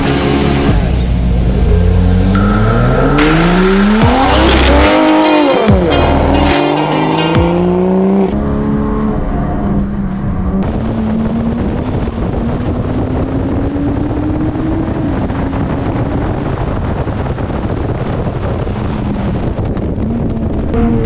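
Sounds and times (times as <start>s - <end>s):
race car engine accelerating: 0.0s - 21.0s
road and wind noise: 0.0s - 21.0s.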